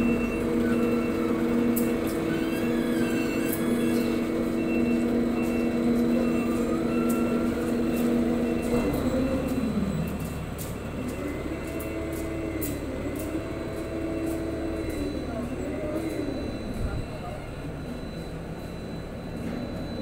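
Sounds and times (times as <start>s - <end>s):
short high warning beep: 0.0s - 10.3s, 11.0s - 20.0s
crane mechanical whine: 0.0s - 20.0s.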